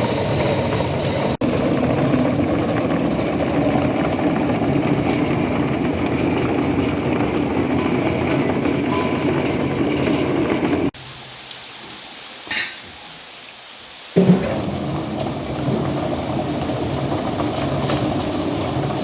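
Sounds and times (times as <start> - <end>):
machine droning and rattling: 0.0 - 11.0, 14.2 - 19.0.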